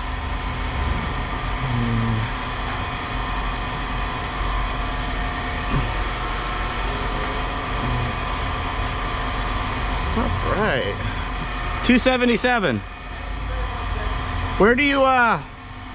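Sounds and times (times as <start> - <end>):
heavy machine engine droning: 0.0 - 15.9.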